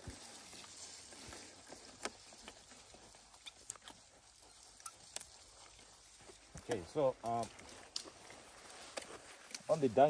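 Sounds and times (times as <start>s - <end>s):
disposable gloves rustling and clicking: 0.0s - 10.0s.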